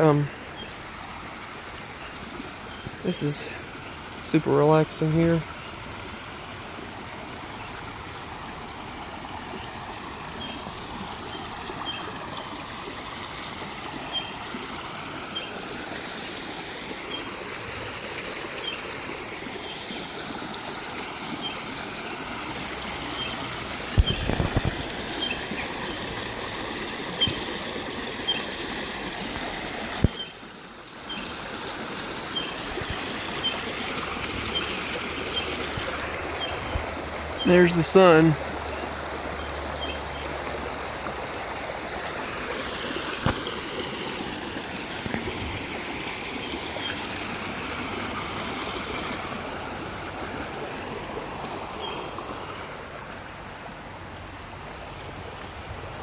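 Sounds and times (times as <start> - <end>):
creek water over rocks: 0.0 - 56.0.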